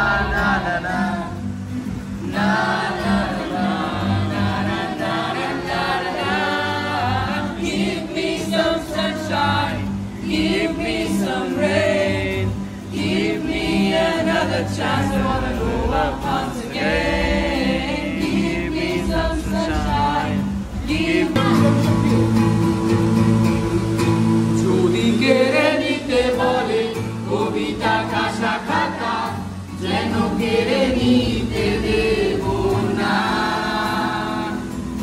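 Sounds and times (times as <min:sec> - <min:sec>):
men singing together: 0:00.0 - 0:01.5, 0:02.2 - 0:23.3, 0:24.2 - 0:35.0
acoustic guitar: 0:00.0 - 0:35.0.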